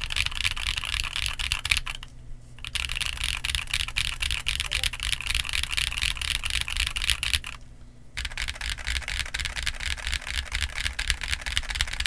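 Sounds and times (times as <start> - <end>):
rapid mechanical keyboard typing: 0.0 - 7.6, 8.2 - 12.0.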